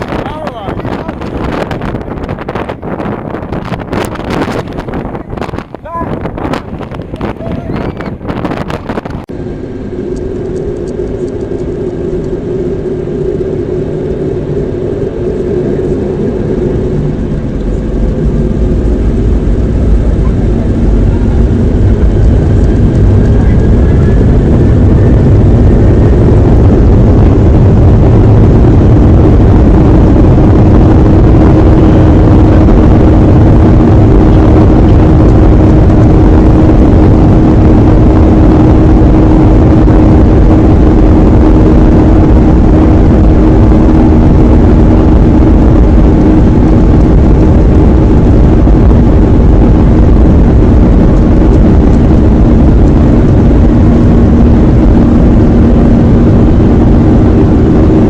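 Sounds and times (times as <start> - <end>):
jet engine roar in cabin: 0.0 - 58.0
steady low hum: 0.0 - 58.0.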